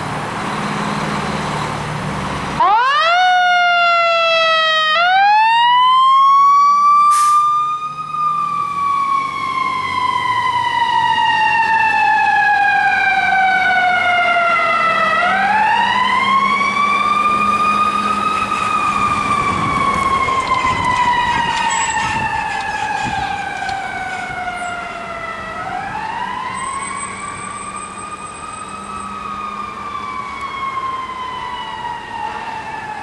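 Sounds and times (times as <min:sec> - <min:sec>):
fire engine siren wailing: 0:00.0 - 0:33.0.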